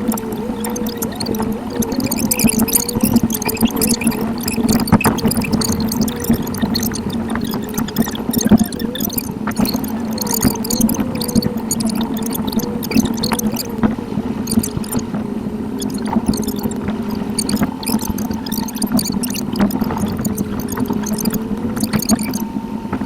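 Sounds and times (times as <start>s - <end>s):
rapid high ticks and chirps: 0.0s - 15.2s, 15.8s - 22.5s.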